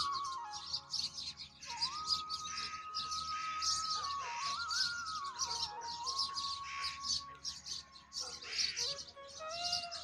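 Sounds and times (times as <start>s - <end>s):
birds chirping rapidly: 0.0s - 10.0s
sustained melody music: 0.0s - 10.0s.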